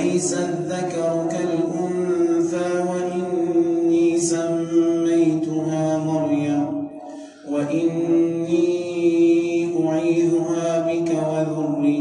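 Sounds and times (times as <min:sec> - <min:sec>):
man chanting recitation: 0:00.0 - 0:12.0.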